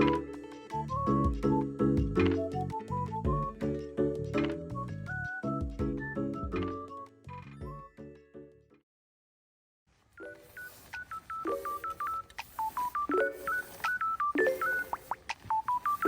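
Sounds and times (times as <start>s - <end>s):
background music: 0.0s - 8.8s, 11.4s - 16.0s.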